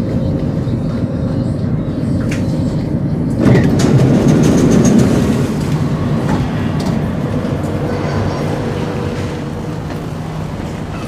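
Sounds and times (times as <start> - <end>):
train carriage low hum: 0.0 - 11.0
train doors sliding open: 2.1 - 11.0.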